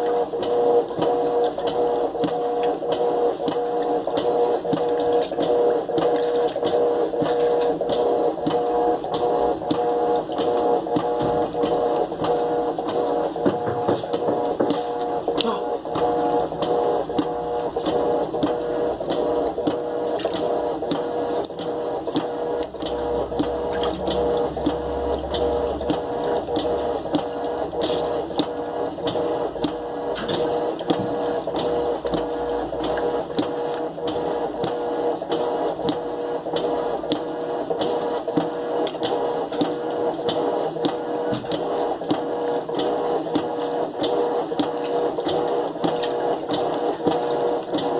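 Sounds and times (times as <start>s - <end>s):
washing machine clicking: 0.0s - 47.9s
washing machine motor hum: 0.0s - 47.9s.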